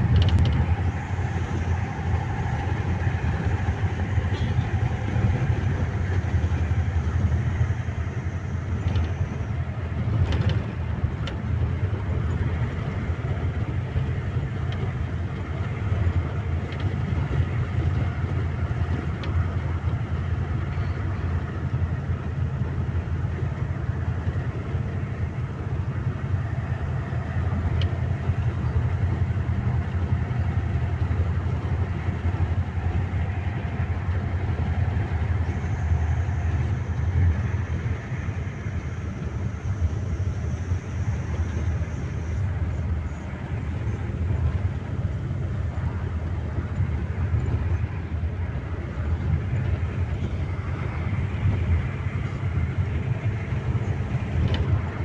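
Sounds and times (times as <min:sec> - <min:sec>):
vehicle engine and tyre noise: 0:00.0 - 0:55.0.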